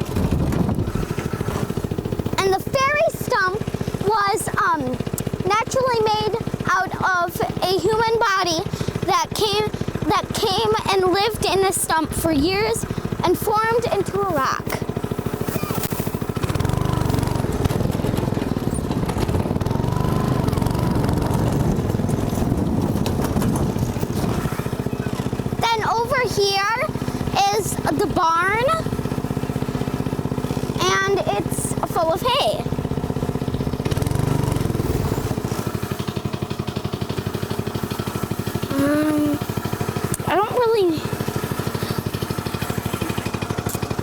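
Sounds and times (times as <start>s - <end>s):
go-kart engine chugging: 0.0s - 44.0s.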